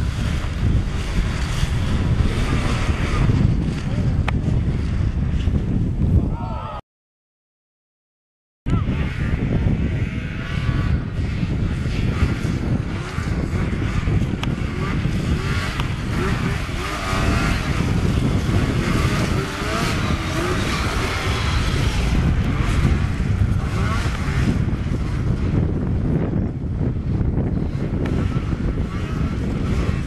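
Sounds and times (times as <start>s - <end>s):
snowmobile engine revving: 0.0s - 5.6s, 8.7s - 30.0s.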